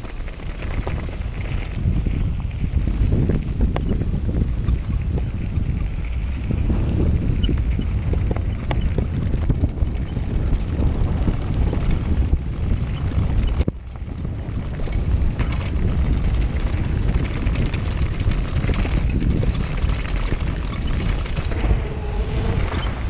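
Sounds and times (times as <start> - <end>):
bike rattling: 0.0 - 23.0
wind buffeting microphone: 0.0 - 23.0.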